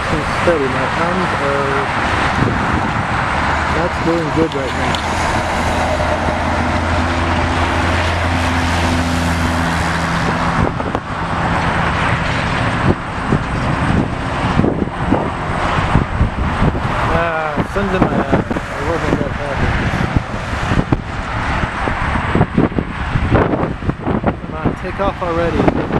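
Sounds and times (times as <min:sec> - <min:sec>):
steady traffic noise: 0:00.0 - 0:25.9
vehicle engine hum: 0:00.0 - 0:25.9
wind buffeting microphone: 0:00.0 - 0:25.9.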